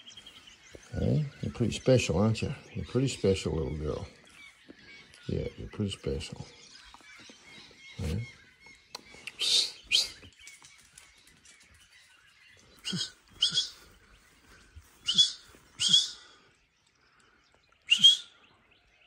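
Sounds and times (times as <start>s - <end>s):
bird calling harshly: 0.0s - 10.8s, 12.5s - 16.7s, 17.8s - 18.5s.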